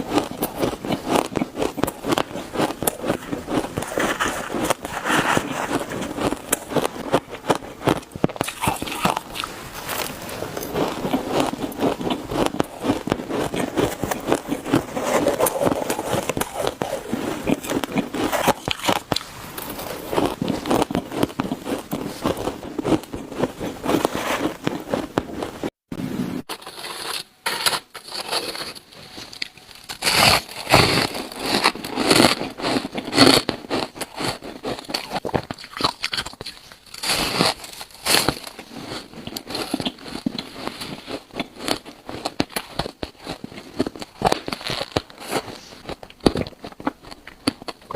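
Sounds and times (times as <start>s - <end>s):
crunching ice while chewing: 0.0s - 25.7s, 26.6s - 47.9s.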